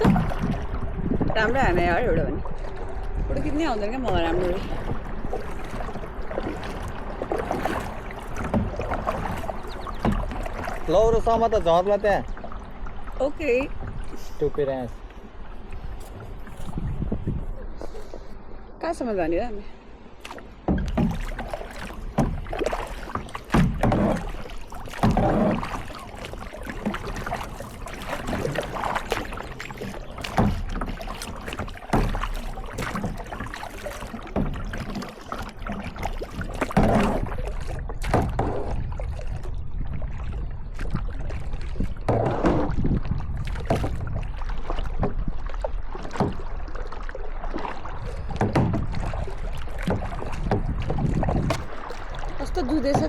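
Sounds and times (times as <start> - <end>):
paddle splashing in water: 0.0 - 18.8, 19.4 - 53.0.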